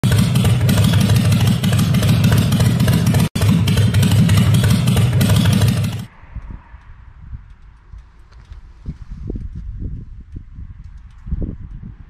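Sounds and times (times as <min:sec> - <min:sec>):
motorcycle exhaust: 0:00.0 - 0:11.9.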